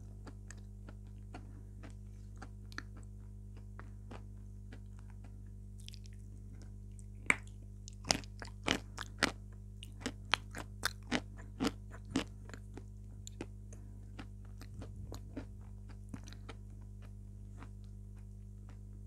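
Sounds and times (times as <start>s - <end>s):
crunchy chewing: 0.0s - 18.9s
steady low hum: 0.0s - 19.0s
soft mouth sounds: 0.2s - 17.8s.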